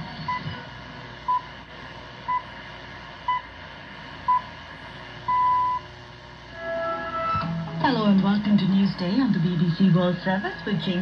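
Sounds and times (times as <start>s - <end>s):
shortwave static hiss: 0.0s - 11.0s.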